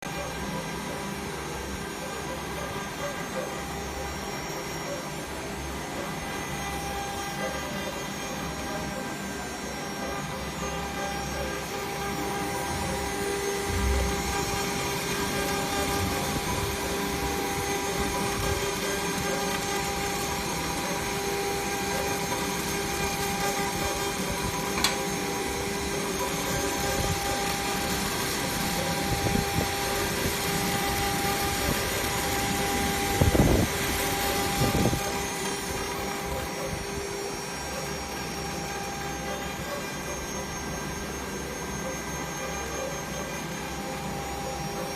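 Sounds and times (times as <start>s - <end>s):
engraving machine spindle whine: 0.1s - 44.9s.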